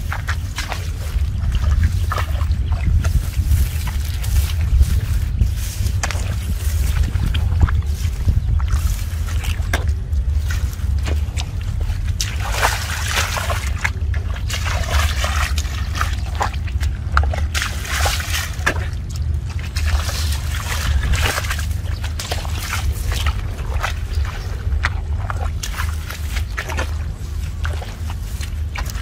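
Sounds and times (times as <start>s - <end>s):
steady low rumble: 0.0s - 29.0s
water splashing and sloshing: 0.0s - 29.0s.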